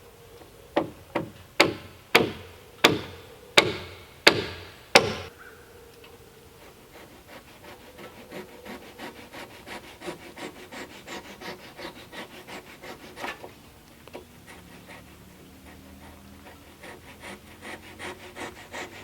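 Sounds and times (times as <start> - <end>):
hand saw cutting wood: 0.8 - 5.3, 6.6 - 19.0.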